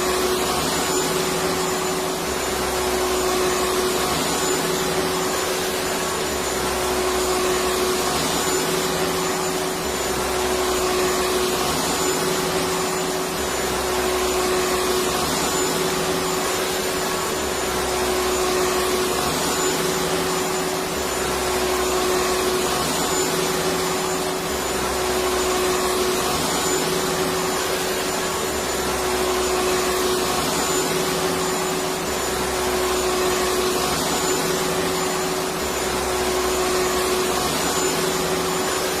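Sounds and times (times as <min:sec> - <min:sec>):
vacuum cleaner motor whining: 0:00.0 - 0:39.0.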